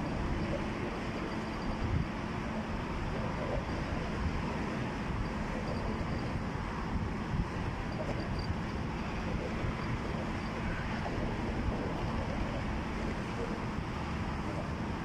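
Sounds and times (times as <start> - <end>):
highway traffic noise: 0.0 - 15.0
wind rumble on microphone: 0.0 - 15.0.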